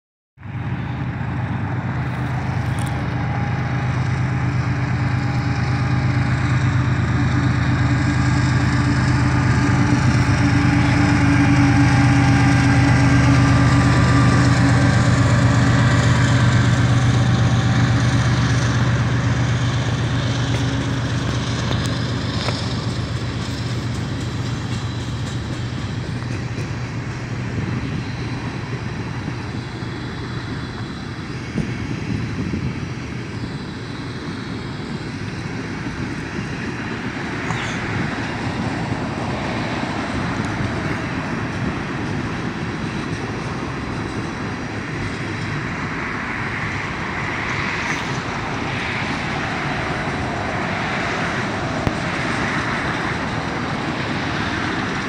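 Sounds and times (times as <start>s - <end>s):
diesel locomotive engine droning: 0.4s - 55.0s
hopper cars rolling past: 0.4s - 55.0s.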